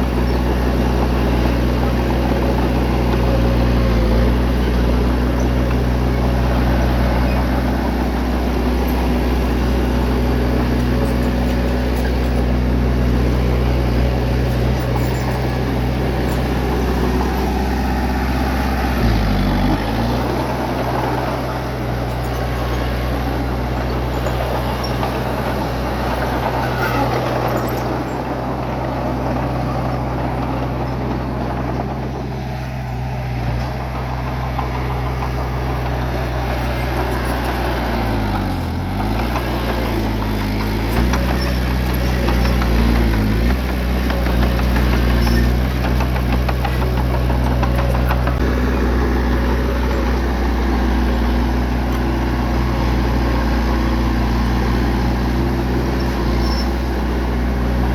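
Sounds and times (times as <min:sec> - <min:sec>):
bulldozer diesel engine running: 0:00.0 - 0:57.9.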